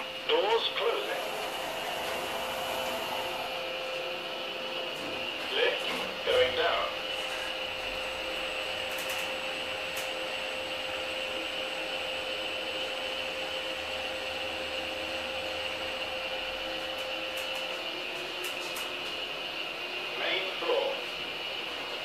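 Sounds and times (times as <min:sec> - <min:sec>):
elevator mechanical hum: 0:00.0 - 0:22.0.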